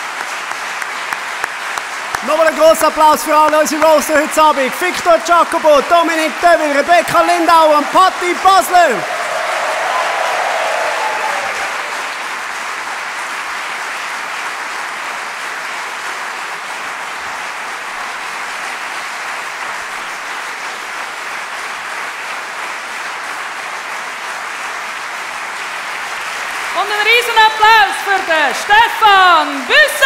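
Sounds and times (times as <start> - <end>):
large audience applauding: 0.0 - 30.0.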